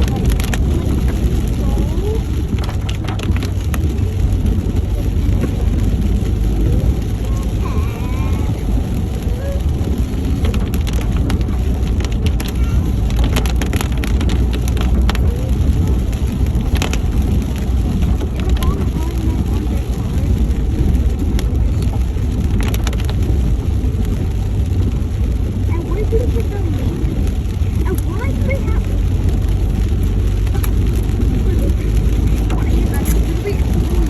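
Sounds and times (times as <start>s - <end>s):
engine and road rumble: 0.0s - 34.0s
raindrops ticking on car: 0.0s - 34.0s.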